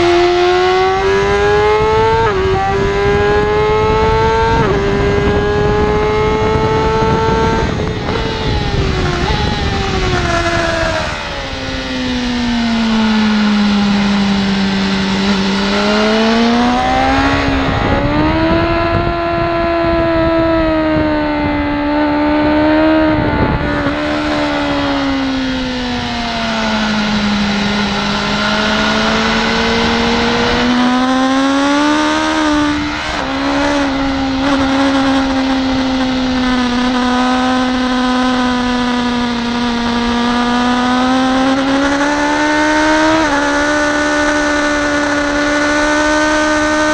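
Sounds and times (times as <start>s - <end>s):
motorcycle engine at high revs: 0.0s - 46.9s
wind rush: 0.0s - 46.9s.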